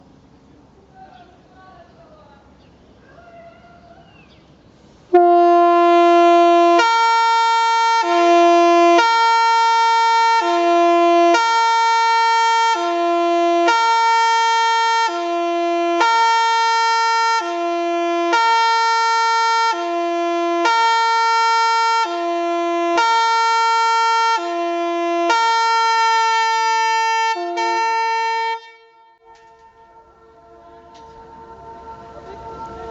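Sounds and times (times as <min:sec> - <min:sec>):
two-tone siren horn: 0:05.1 - 0:32.9.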